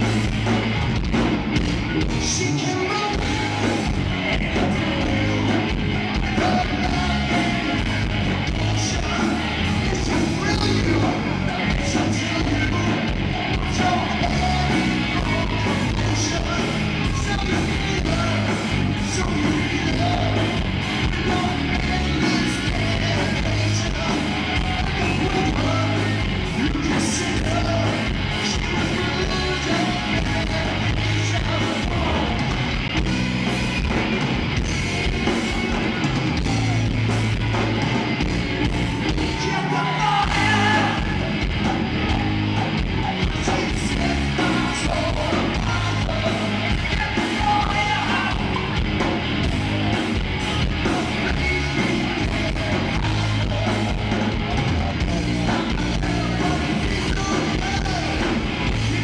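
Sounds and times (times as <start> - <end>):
bass line: 0.0 - 59.0
drums: 0.0 - 59.0
electric guitars: 0.0 - 59.0.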